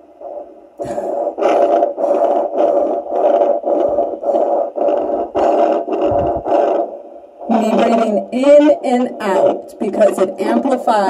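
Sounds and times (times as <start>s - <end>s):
doppler whooshing pulse: 0.2s - 10.7s.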